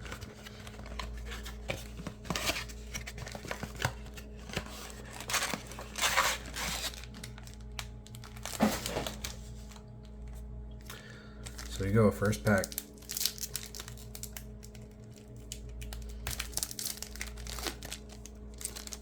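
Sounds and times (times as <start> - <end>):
foil wrapper crinkling and tearing: 0.0 - 19.0.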